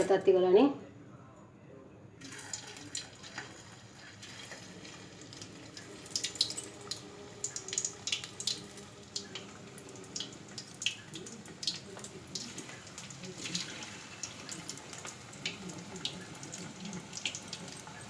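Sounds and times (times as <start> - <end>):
food deep-frying in oil: 2.2 - 18.0.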